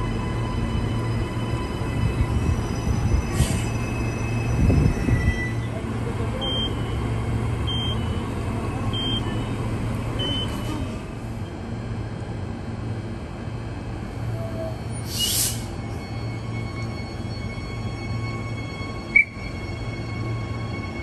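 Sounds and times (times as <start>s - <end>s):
train running on track: 0.0s - 21.0s.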